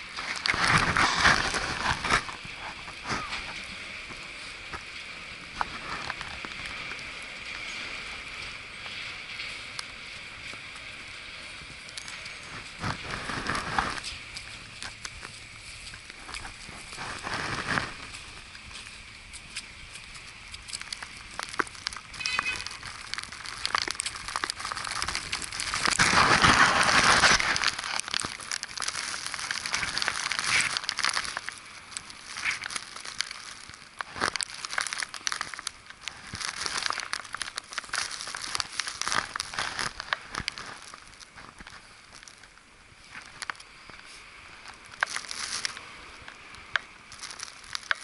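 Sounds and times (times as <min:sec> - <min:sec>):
footsteps crunching in snow: 0:00.0 - 0:03.7, 0:11.6 - 0:42.4, 0:43.0 - 0:48.0.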